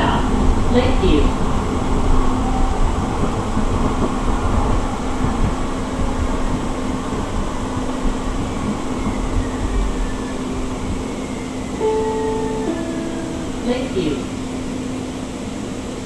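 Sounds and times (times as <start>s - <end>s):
faint high whine: 0.0s - 16.0s
low hum: 0.0s - 16.0s
wheels rumbling on track: 0.0s - 16.0s.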